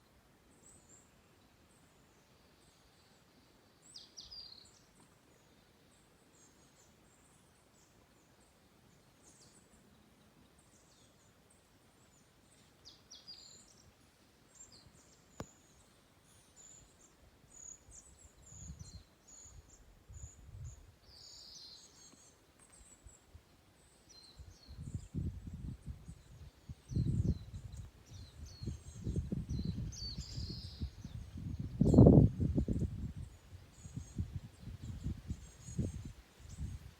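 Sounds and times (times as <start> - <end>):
songbirds chirping and trilling: 0.4 - 36.9.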